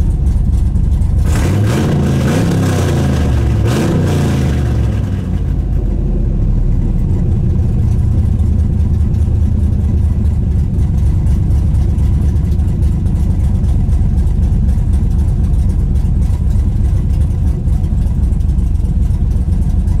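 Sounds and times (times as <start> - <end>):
car engine revving and idling: 0.0 - 20.0.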